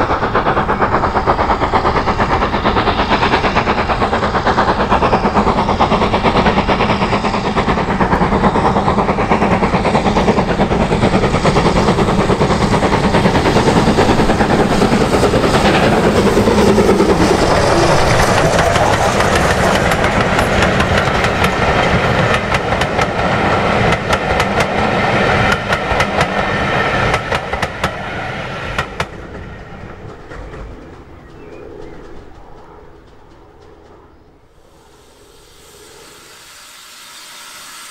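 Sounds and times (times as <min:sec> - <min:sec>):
train wheels clicking over rail joints: 0:00.0 - 0:35.4
steam locomotive exhaust beats: 0:00.0 - 0:37.9.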